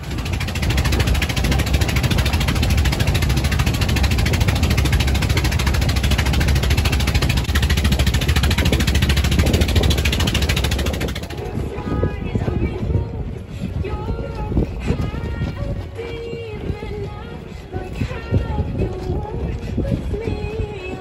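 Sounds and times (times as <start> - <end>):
boat engine pulsing: 0.0 - 21.0.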